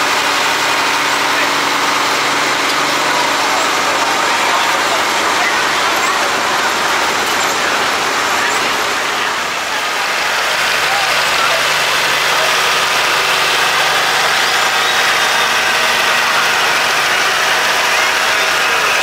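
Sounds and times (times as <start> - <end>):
onlookers chattering: 0.0 - 19.0
tractor engine driving past: 0.0 - 19.0.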